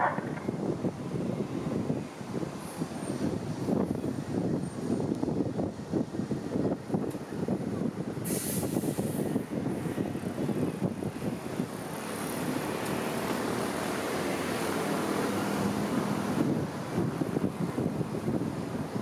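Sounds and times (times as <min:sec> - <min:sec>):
traffic rumble of engines and tyres: 0:00.0 - 0:19.0.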